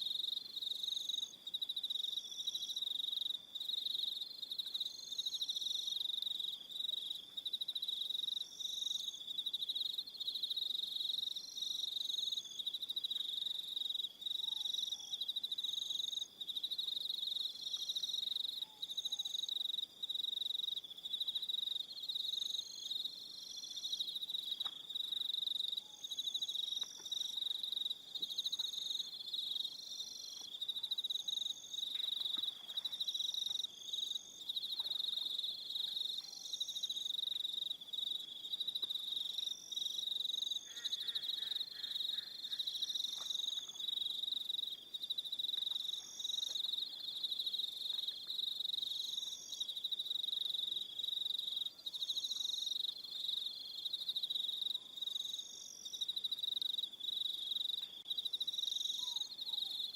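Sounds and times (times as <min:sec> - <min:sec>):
insects chirping: 0:00.0 - 0:59.9
crickets trilling: 0:00.1 - 0:59.9.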